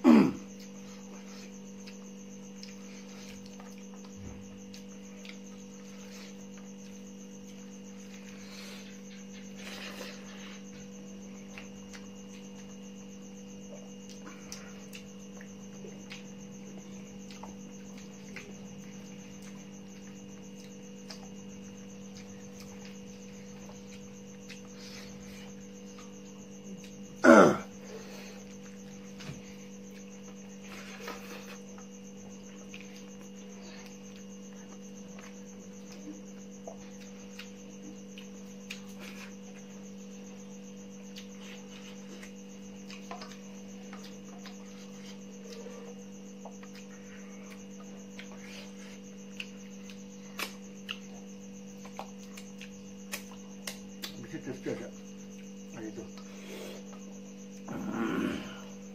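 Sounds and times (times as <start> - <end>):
chewing: 0.5 - 54.4.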